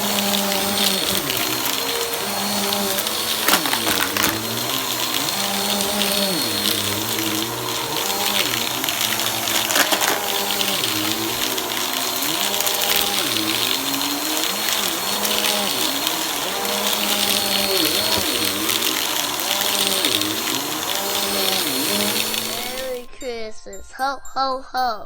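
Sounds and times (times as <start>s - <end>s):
vacuum cleaner motor running: 0.0s - 23.1s.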